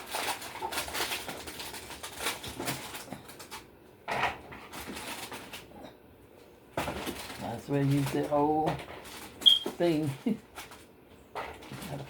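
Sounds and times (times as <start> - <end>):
kitchen clattering and rustling: 0.0 - 6.0, 6.7 - 12.0.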